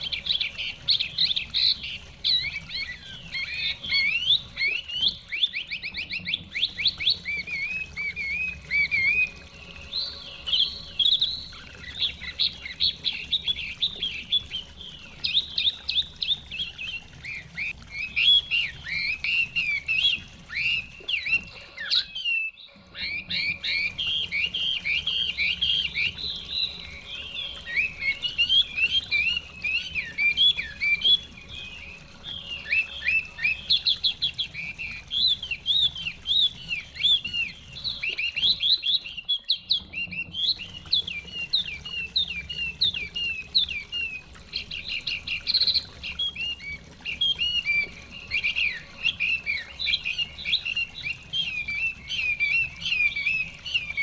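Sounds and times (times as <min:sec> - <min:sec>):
bird singing whistles and chirps: 0:00.0 - 0:54.0.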